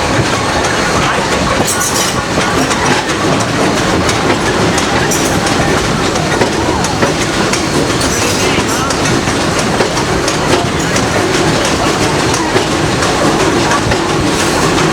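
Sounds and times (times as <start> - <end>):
train wheels rumbling on rail: 0.0 - 14.9
wheels clicking over rail joints: 0.0 - 14.9.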